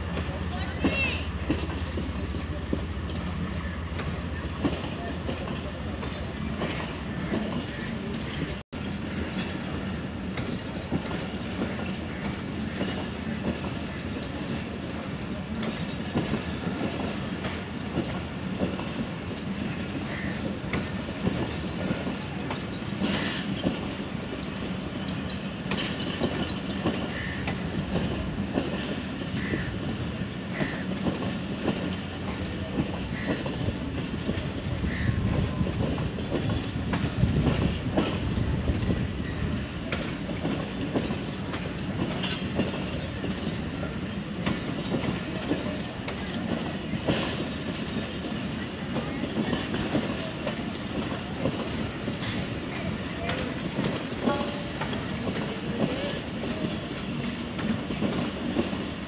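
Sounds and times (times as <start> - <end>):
train wheels clattering over joints: 0.0 - 59.0
train wheel squeak: 0.2 - 29.5, 30.6 - 59.0.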